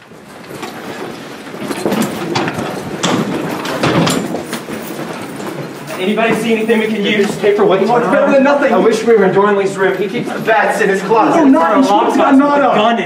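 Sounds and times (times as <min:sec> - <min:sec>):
people hurrying about: 0:00.3 - 0:13.0.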